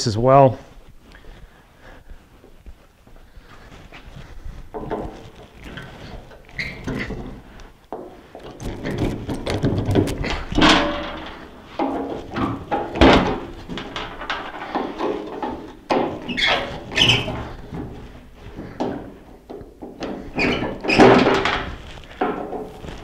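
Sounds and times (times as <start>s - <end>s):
metal clunks and scrapes: 3.5s - 23.0s.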